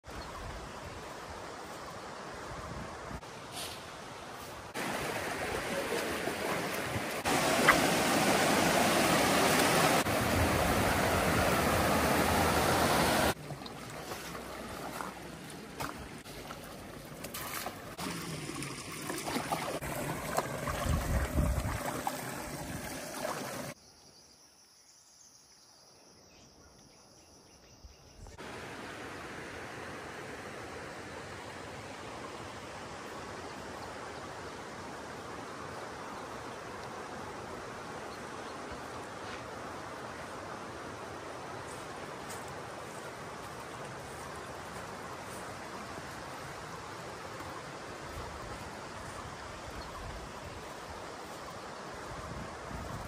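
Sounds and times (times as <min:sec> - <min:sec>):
river water rushing: 0:04.7 - 0:23.8, 0:28.4 - 0:53.0.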